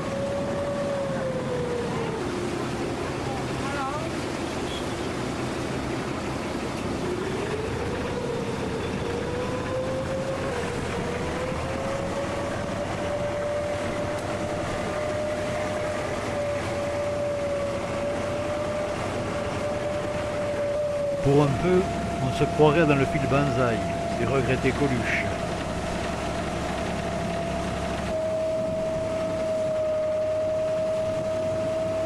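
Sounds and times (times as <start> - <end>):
boat engine running: 0.0 - 32.0
water wash: 0.0 - 32.0.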